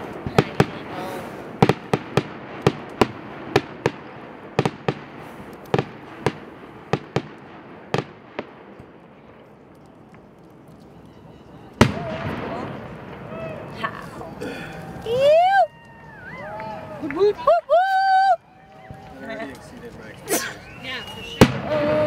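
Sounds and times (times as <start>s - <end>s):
fireworks bangs: 0.0s - 17.4s, 20.6s - 22.0s.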